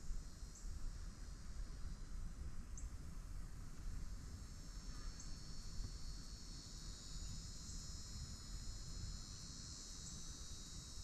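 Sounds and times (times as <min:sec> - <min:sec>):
high insect chorus: 0:00.0 - 0:11.0
wind rumble on microphone: 0:00.0 - 0:11.0.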